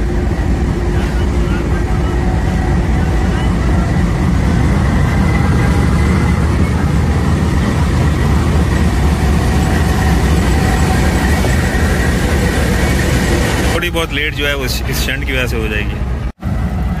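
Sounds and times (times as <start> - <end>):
locomotive engine idling: 0.0 - 17.0.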